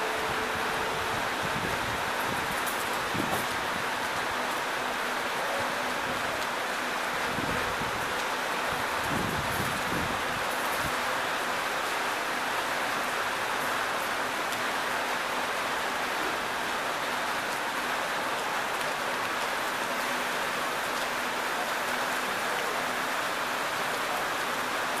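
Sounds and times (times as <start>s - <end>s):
rain hissing: 0.0s - 25.0s.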